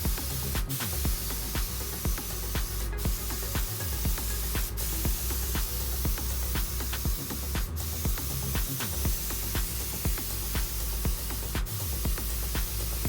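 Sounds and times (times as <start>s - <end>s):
background music with beat: 0.0s - 13.0s
spray paint hissing: 0.0s - 13.0s.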